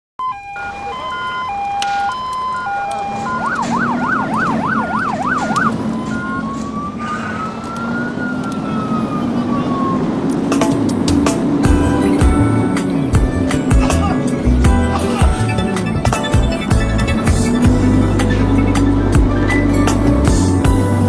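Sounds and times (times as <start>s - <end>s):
electronic siren cycling tones: 0.2s - 19.8s.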